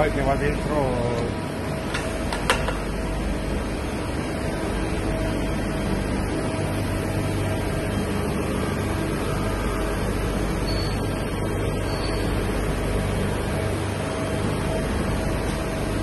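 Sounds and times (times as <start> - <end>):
machinery humming and whirring: 0.0 - 16.0.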